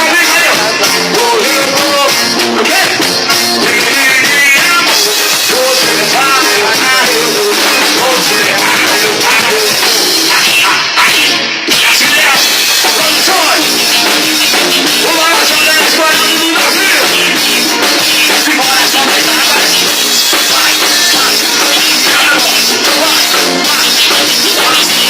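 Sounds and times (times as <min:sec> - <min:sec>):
drum kit beat: 0:00.0 - 0:25.0
live band playing dance music: 0:00.0 - 0:25.0.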